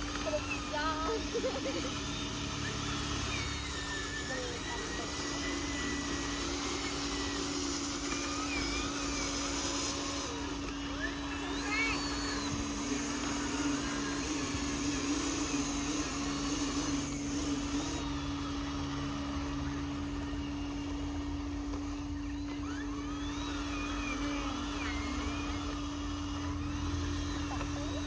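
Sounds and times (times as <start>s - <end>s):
small electric motor humming: 0.0s - 28.0s.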